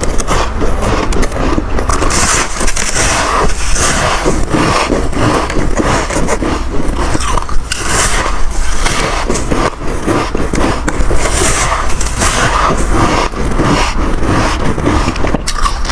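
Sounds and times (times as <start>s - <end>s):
crunchy ice chewing: 0.0s - 15.9s.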